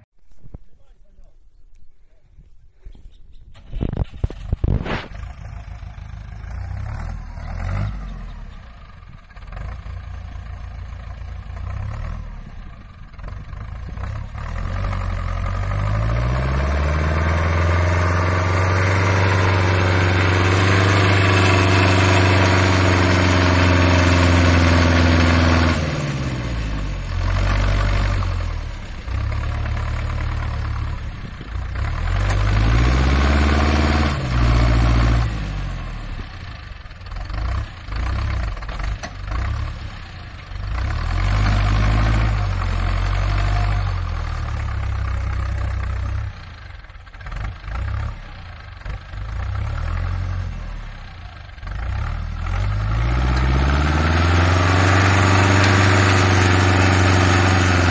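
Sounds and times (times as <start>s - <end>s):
tractor engine revving: 3.5s - 57.9s.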